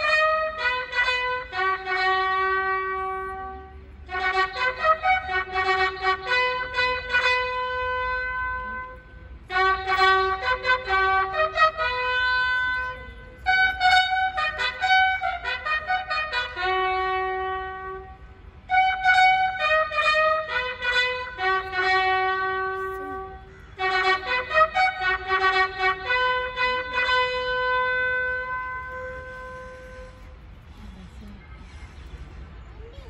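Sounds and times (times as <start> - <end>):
bugle playing held notes: 0.0 - 30.6.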